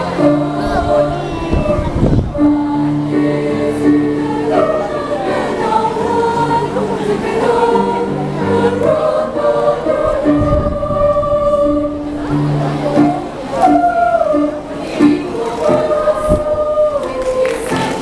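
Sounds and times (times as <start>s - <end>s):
girls' choir singing in harmony: 0.0s - 18.0s.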